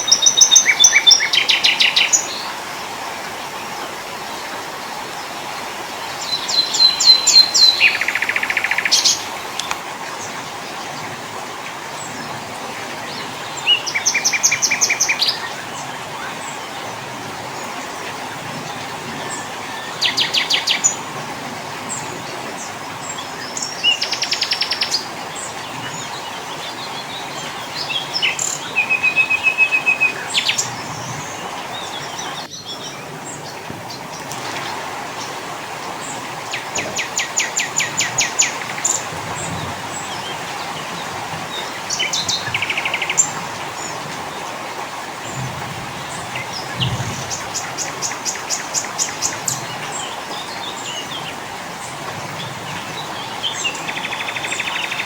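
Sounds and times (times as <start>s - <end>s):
songbirds trilling: 0.0s - 55.0s
steady background hiss: 0.0s - 55.0s.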